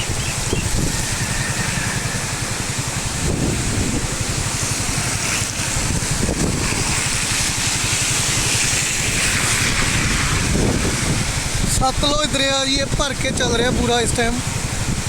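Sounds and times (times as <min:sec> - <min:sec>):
river rushing: 0:00.0 - 0:15.0
wind buffeting microphone: 0:00.0 - 0:15.0.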